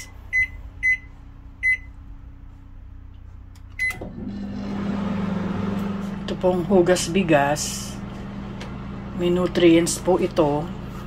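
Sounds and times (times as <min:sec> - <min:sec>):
microwave beeping: 0:00.0 - 0:02.0, 0:03.7 - 0:10.9
microwave oven humming: 0:00.0 - 0:11.0.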